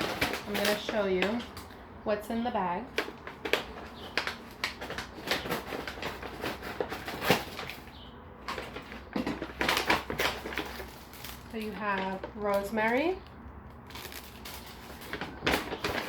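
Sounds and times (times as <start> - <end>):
bag rustling and crinkling: 0.0 - 1.7, 2.9 - 16.0.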